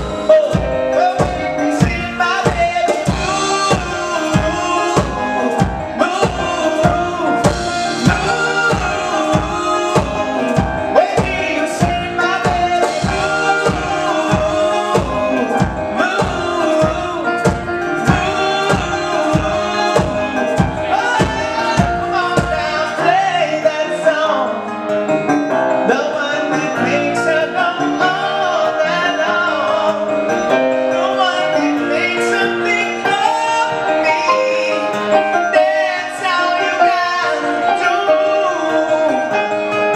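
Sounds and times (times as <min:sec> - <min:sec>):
pop-rock band playing: 0:00.0 - 0:39.9.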